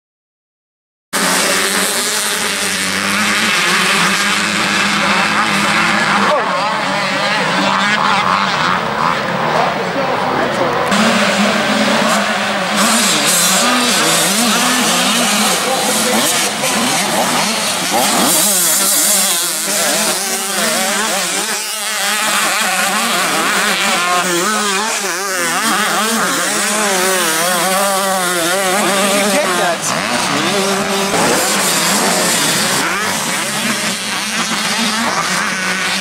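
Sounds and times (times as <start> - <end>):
small motorbike engines revving: 1.2 - 36.0.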